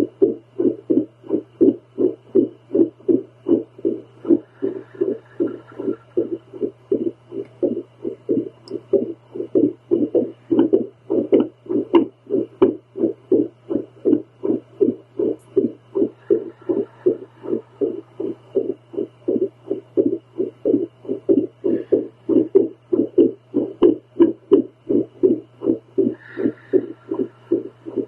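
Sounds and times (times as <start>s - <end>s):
heartbeat whooshing pulses: 0.0s - 28.0s
steady low hum: 0.0s - 28.0s.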